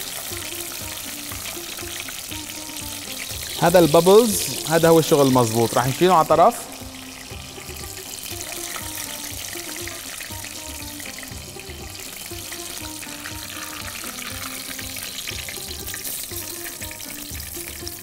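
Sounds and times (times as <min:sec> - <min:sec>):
background music with a beat: 0:00.0 - 0:18.0
oil sizzling: 0:00.0 - 0:18.0.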